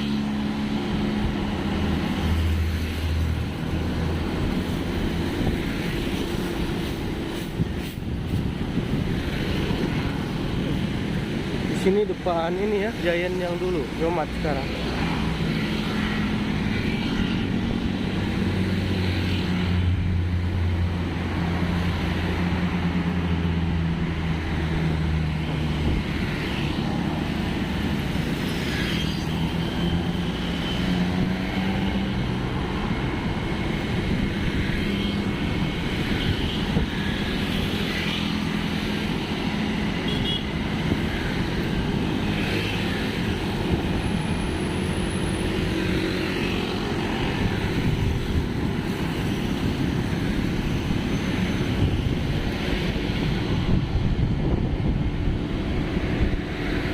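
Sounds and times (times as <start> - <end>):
road and wind noise: 0.0 - 56.9.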